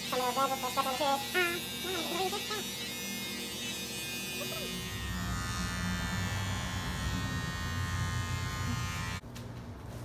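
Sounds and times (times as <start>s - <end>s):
electric hair clippers buzzing: 0.0s - 9.2s.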